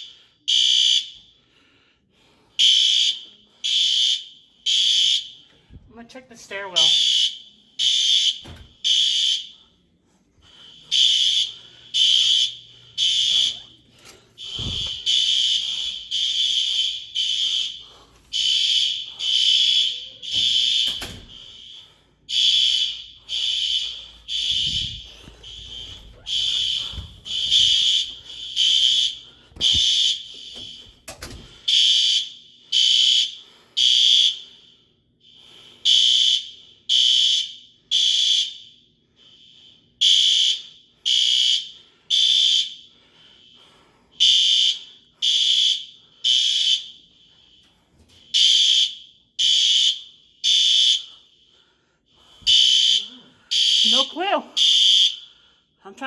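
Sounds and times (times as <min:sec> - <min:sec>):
fire alarm beeping: 0:00.0 - 0:01.4, 0:02.6 - 0:56.0.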